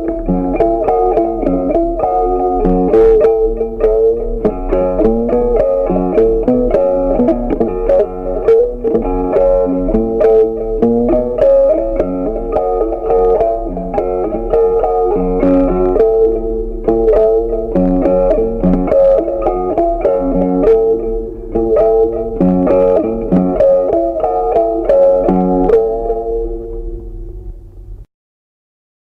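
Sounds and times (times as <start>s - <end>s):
plucked guitar melody: 0.0s - 28.0s.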